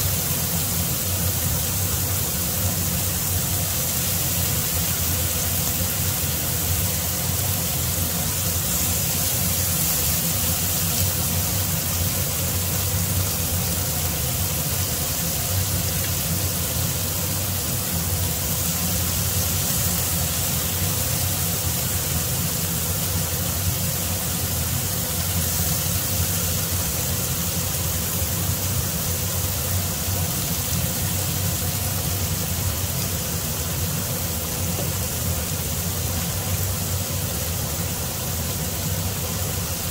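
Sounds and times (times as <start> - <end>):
meat sizzling in frying pan: 0.0 - 39.9.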